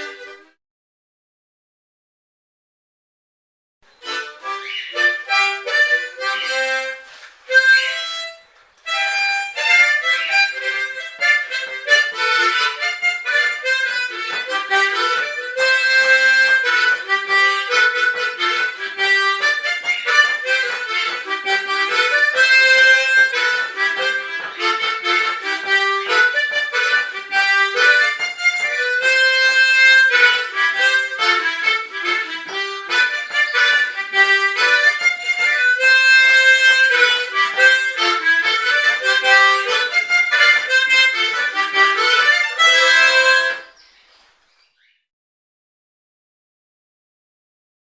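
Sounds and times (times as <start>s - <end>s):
harmonica melody: 0.0s - 0.6s, 3.9s - 43.9s.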